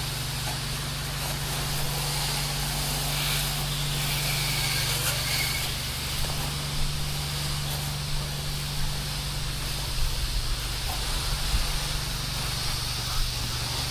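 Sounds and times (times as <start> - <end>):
pump running: 0.0 - 13.9
water spray hissing: 0.0 - 13.9.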